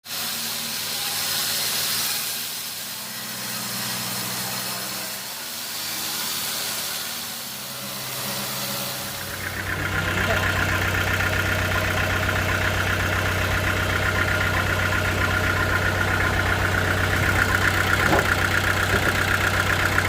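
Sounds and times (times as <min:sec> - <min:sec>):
sawmill motor hum: 0:00.1 - 0:20.0.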